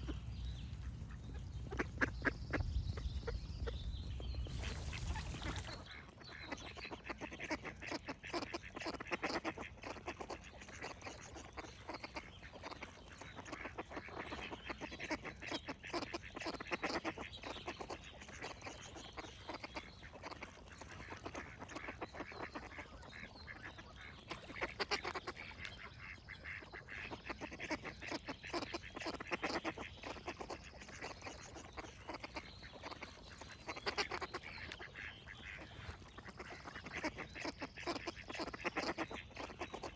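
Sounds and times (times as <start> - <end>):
ducks quacking: 0.0 - 39.9
songbirds singing: 0.0 - 39.9.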